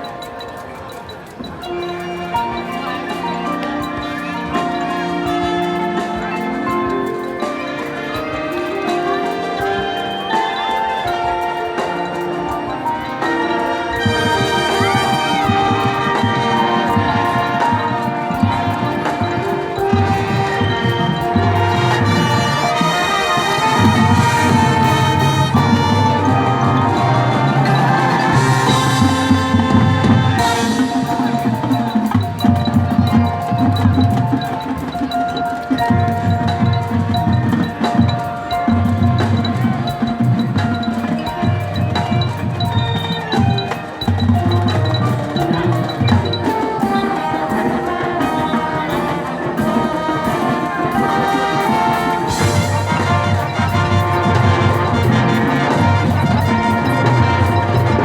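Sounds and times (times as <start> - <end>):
bell-like mallet percussion: 0.0 - 58.0
marching band playing: 0.0 - 58.0.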